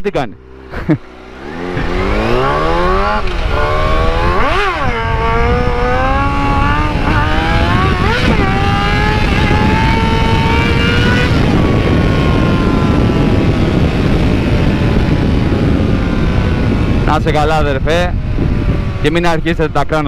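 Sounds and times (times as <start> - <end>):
motorcycle engine revving: 0.4 - 20.0
wind on microphone: 0.8 - 20.0.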